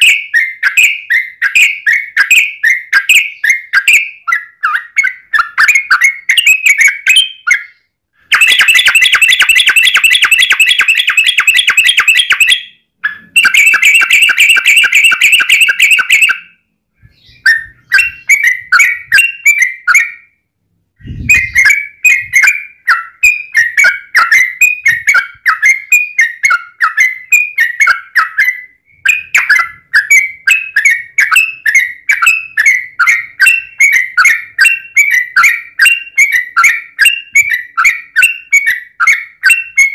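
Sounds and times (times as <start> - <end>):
bird singing chattering notes: 0.0 - 20.3, 21.0 - 39.9.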